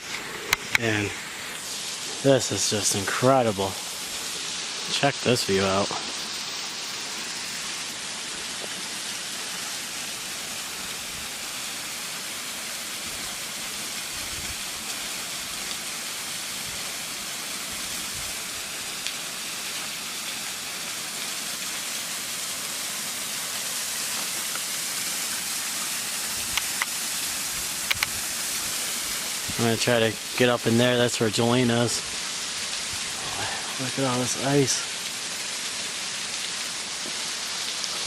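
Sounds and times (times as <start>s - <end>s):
waterfall pouring: 0.0s - 38.0s.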